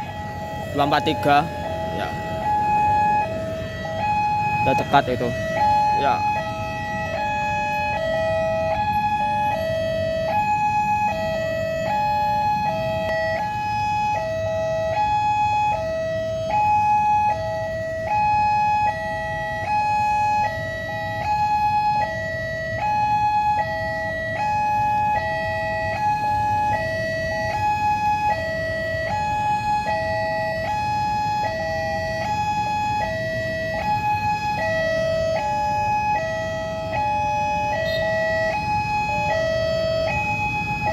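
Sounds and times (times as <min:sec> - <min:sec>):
road traffic rumble: 0:00.0 - 0:40.9
two-tone level-crossing alarm: 0:00.0 - 0:40.9.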